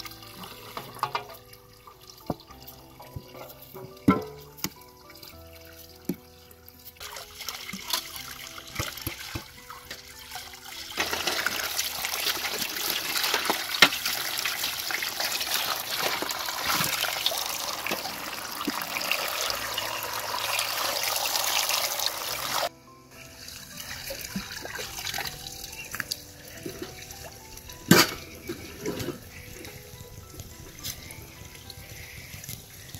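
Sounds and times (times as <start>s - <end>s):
water splashing into metal colander: 0.0s - 6.2s, 7.0s - 22.7s, 23.5s - 29.8s
hands rinsing potatoes: 0.0s - 22.7s, 23.4s - 32.9s.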